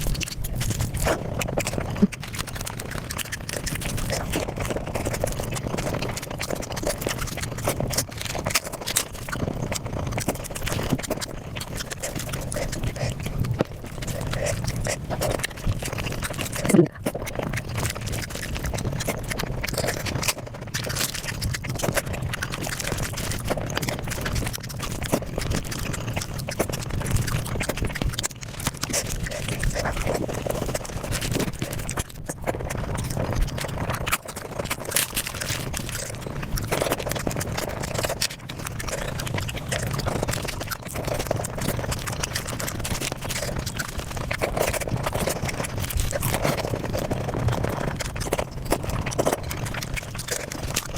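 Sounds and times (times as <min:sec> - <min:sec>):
sped-up chewing and crunching: 0:00.0 - 0:50.9.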